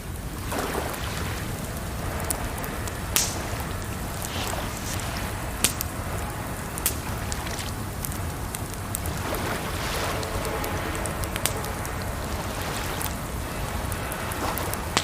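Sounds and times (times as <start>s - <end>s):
campfire crackling and popping: 0.0s - 15.0s
rushing water: 0.0s - 15.0s.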